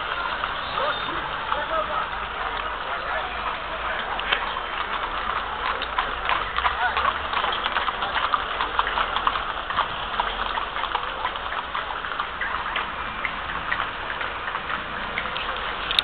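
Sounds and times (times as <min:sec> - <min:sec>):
horse hooves clopping: 0:00.0 - 0:16.0.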